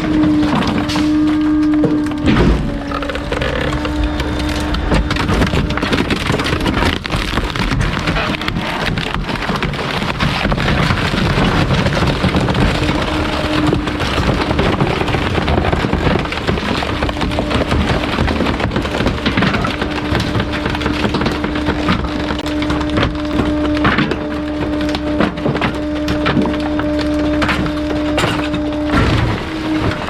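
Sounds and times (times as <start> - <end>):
hydraulic hum: 0.0 - 30.0.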